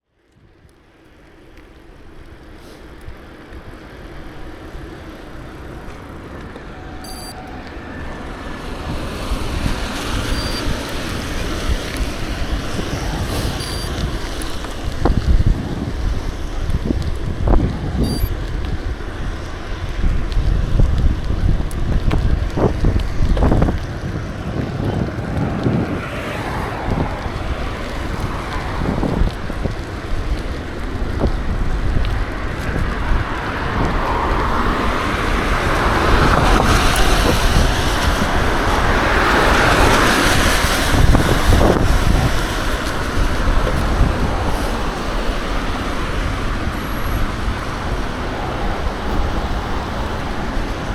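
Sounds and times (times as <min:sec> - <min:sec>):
road traffic: 0:00.1 - 0:50.9
wind buffeting microphone: 0:00.4 - 0:50.9
broad rushing noise: 0:01.2 - 0:50.9.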